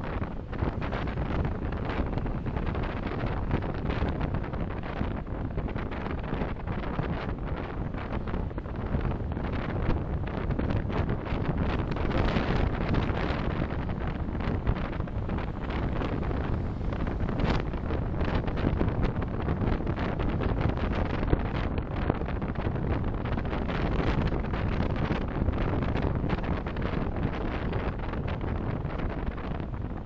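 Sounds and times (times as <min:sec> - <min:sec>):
car road noise: 0:00.0 - 0:30.0
wind buffeting microphone: 0:00.0 - 0:30.0.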